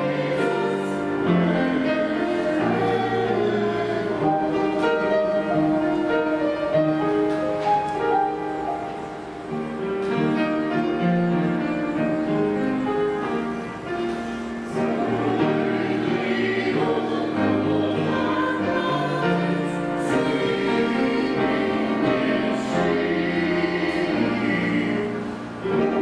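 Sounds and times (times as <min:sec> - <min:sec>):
choir singing: 0:00.0 - 0:26.0
piano accompaniment: 0:00.0 - 0:26.0.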